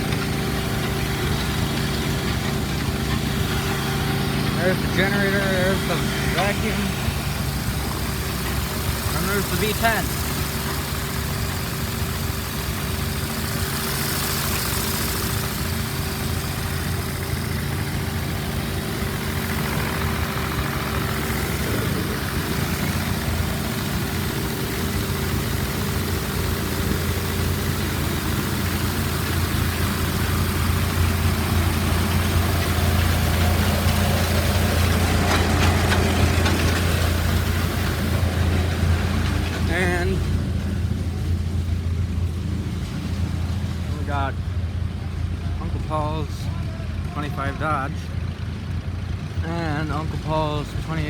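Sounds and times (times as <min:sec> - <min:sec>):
machinery humming: 0:00.0 - 0:51.0.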